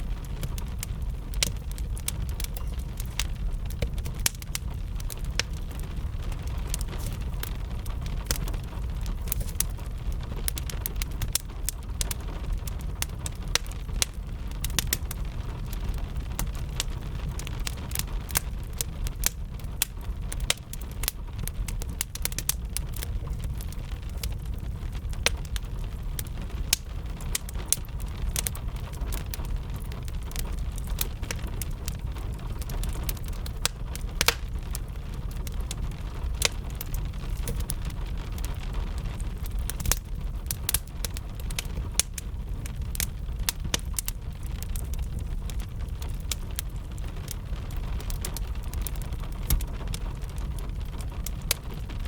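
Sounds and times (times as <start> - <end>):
rain rumble: 0.0 - 52.0
wood fire crackling and popping: 0.0 - 52.0.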